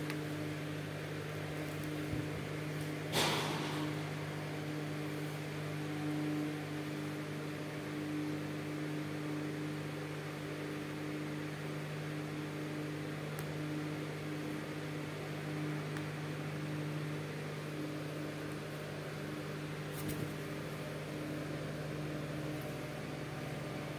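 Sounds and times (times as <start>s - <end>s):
low electrical hum: 0.0s - 23.9s.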